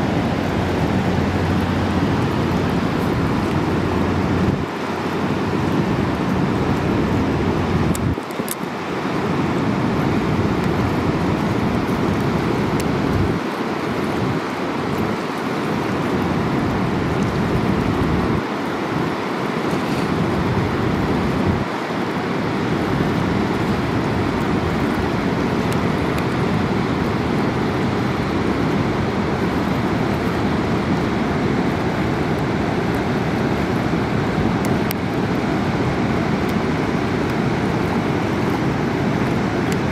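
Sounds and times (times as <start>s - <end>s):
river rapids roaring: 0.0s - 39.9s
wind buffeting microphone: 0.0s - 39.9s.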